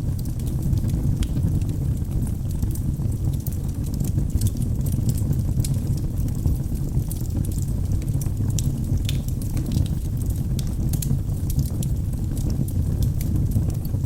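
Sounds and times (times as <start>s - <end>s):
fire crackling and popping: 0.0s - 14.0s
fire flames burning: 0.0s - 14.0s.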